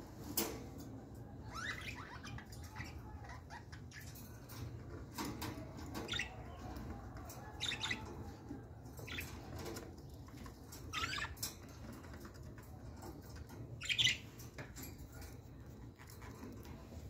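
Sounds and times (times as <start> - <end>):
cage bird chirping: 0.1 - 17.0.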